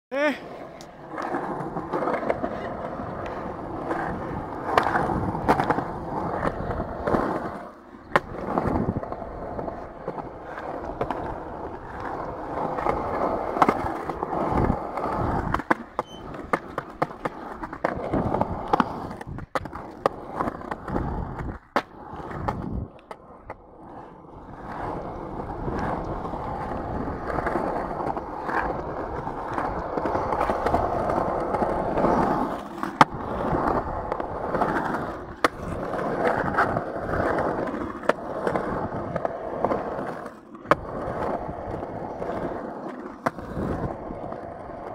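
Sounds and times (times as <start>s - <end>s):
skateboard clicks and knocks: 0.1s - 44.9s
skateboard wheels rolling on concrete: 0.1s - 44.9s.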